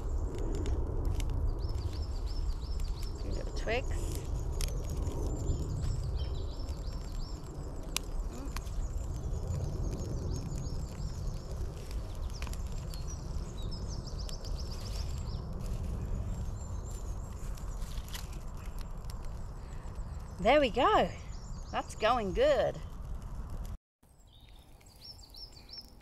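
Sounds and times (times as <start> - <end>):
wood fire crackling and popping: 0.0 - 23.8, 24.4 - 26.0
low fire rumble: 0.0 - 26.0
birds singing: 1.4 - 15.5, 16.2 - 22.4, 24.2 - 26.0.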